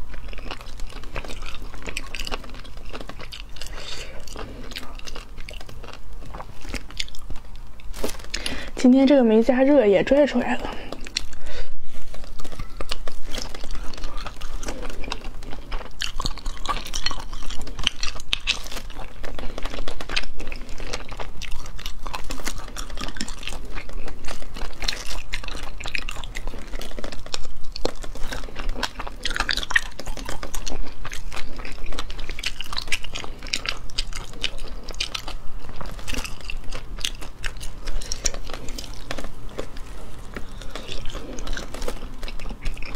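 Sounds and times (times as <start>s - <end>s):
chewing with wet mouth sounds: 0.0s - 42.9s.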